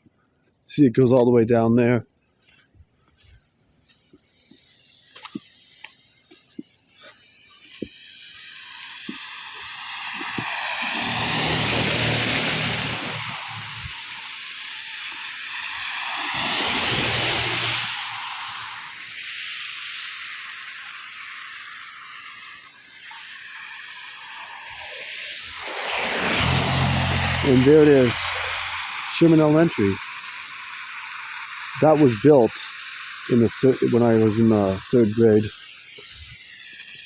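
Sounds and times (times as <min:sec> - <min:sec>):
cars passing on snowy street: 0:02.4 - 0:37.0.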